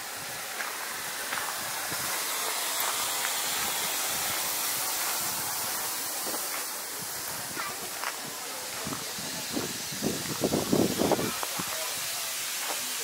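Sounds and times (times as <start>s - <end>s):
steam hissing from locomotive: 0.0s - 13.0s.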